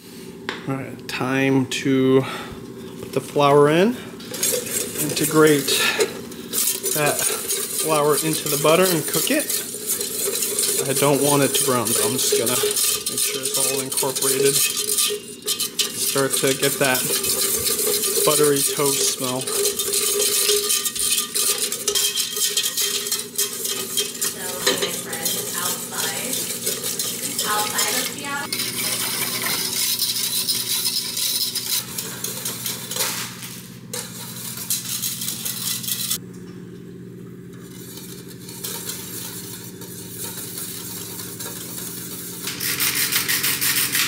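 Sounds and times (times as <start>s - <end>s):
wire whisk beating in saucepan: 4.2s - 36.2s, 37.7s - 44.0s.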